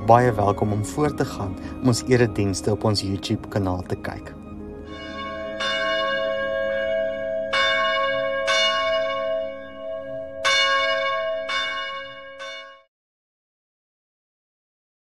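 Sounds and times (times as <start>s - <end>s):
church bells ringing: 0.0s - 12.9s.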